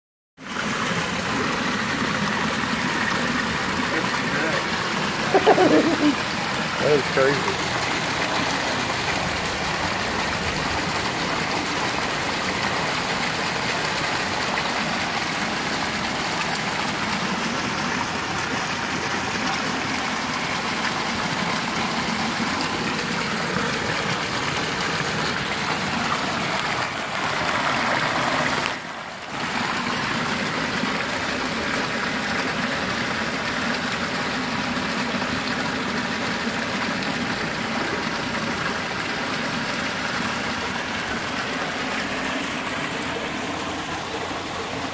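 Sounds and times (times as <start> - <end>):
floodwater rushing down a drain: 0.4 - 44.9.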